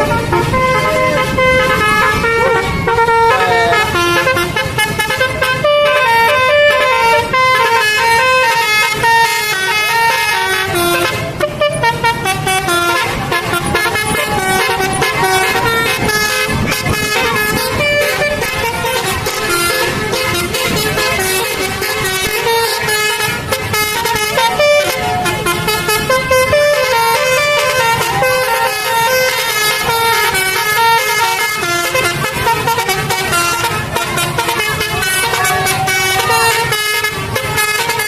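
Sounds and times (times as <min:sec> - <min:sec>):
bus air horn playing a tune: 0:00.0 - 0:38.0.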